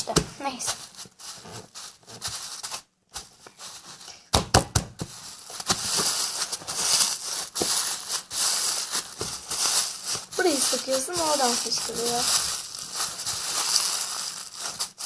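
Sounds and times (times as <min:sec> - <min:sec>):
plastic bag crinkling: 0:00.0 - 0:04.2, 0:05.0 - 0:15.0
sponge squelching in plastic bag: 0:00.4 - 0:04.1, 0:05.1 - 0:15.0.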